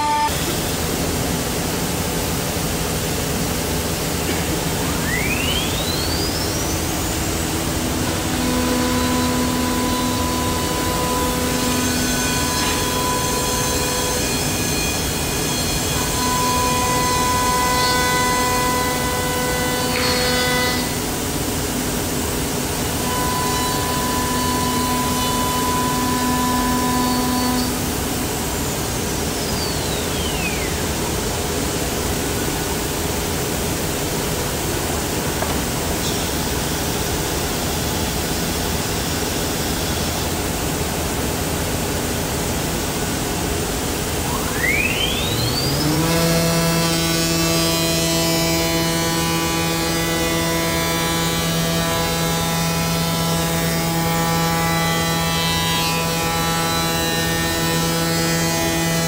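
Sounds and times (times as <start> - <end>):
router spindle whine: 0.0 - 33.0, 34.9 - 59.0.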